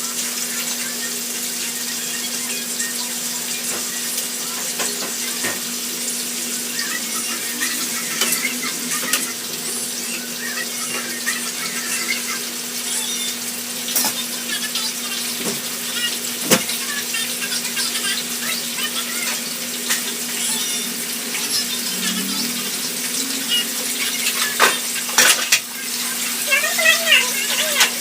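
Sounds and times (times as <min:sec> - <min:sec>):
steady cooking hiss: 0:00.0 - 0:28.0.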